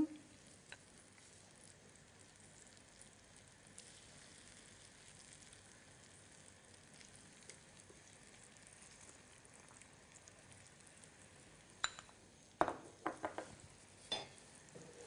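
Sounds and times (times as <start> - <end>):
sauce sizzling in a frying pan: 0.1 - 15.0.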